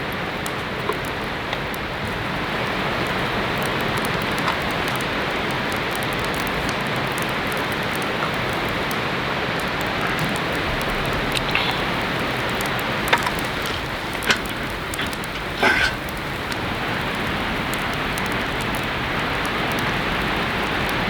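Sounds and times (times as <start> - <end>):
heavy rain on a tent: 0.0 - 21.0.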